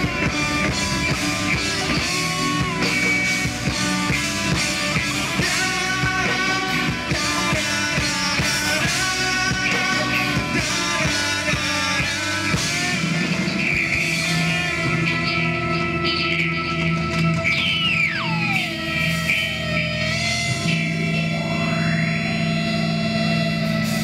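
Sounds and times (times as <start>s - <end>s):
bass guitar: 0.0s - 24.0s
drum kit: 0.0s - 24.0s
electric guitars: 0.0s - 24.0s
keyboard: 0.0s - 24.0s.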